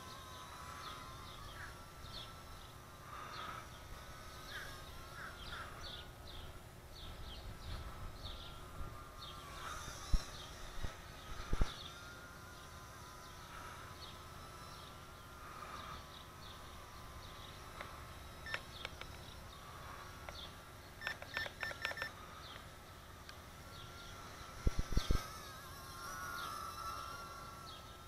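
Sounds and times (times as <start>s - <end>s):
birds chirping: 0.0s - 28.0s
small drone motors whining: 0.0s - 28.0s.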